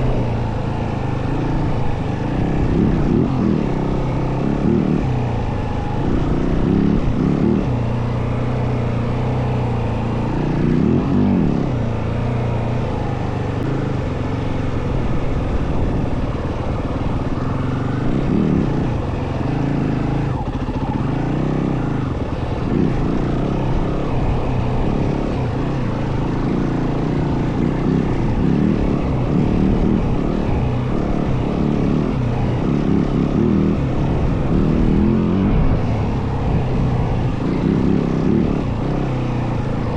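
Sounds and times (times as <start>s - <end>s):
dirt bike engine revving: 0.0s - 12.5s, 17.2s - 39.9s.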